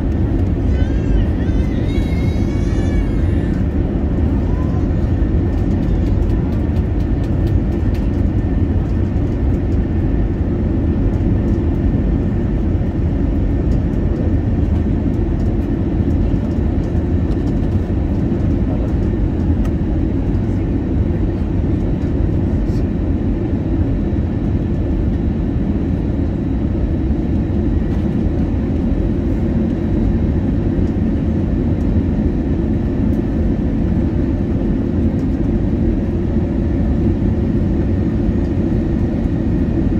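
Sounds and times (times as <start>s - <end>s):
airflow rush in aircraft cabin: 0.0s - 39.9s
jet engines humming: 0.0s - 39.9s.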